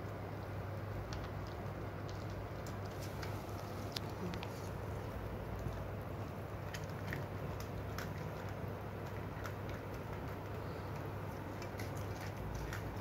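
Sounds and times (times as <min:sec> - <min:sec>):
dogs eating from bowls: 0:02.0 - 0:13.0.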